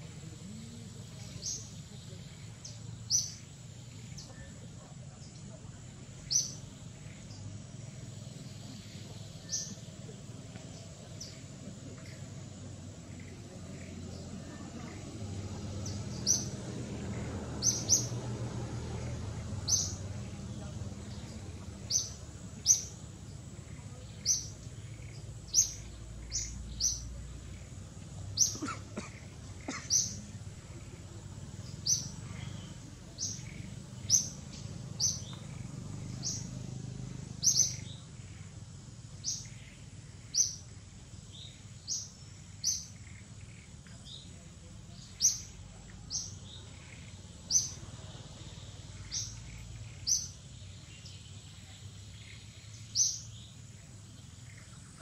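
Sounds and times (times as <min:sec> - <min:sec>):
bird chirping: 0:00.0 - 0:55.0
low outdoor rumble: 0:00.0 - 0:55.0.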